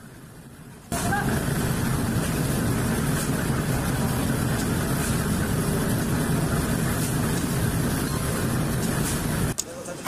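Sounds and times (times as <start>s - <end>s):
concrete mixer drone: 0.0s - 9.7s.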